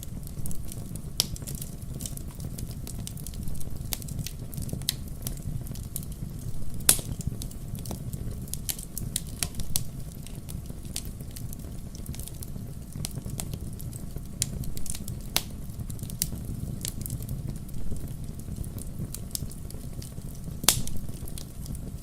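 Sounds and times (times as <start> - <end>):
firewood crackling and popping: 0.0 - 22.0
low rumble of flames: 0.0 - 22.0.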